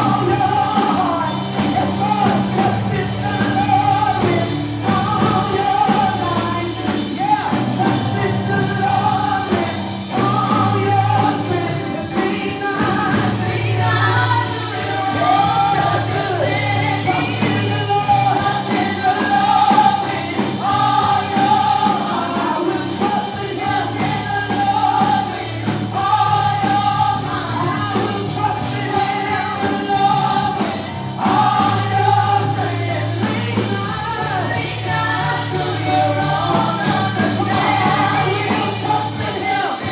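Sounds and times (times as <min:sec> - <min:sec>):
choir singing with accompaniment: 0:00.0 - 0:39.9
steady bass notes: 0:00.0 - 0:39.9.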